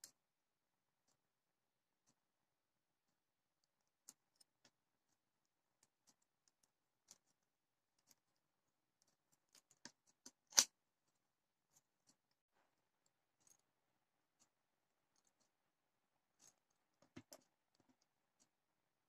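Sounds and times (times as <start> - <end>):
acrylic petals and wire clicking: 0.0 - 0.3, 2.0 - 19.0.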